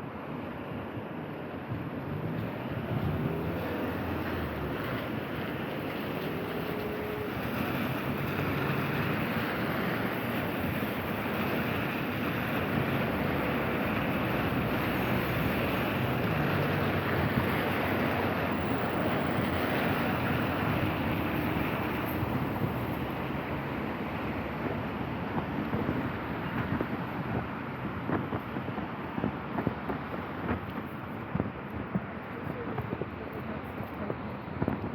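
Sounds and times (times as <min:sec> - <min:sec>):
wet road traffic hiss: 0:00.0 - 0:34.9.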